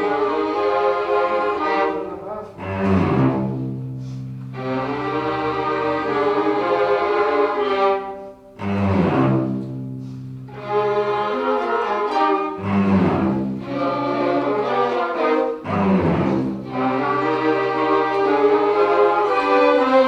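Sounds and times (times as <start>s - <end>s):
chamber orchestra strings playing: 0.0s - 20.0s.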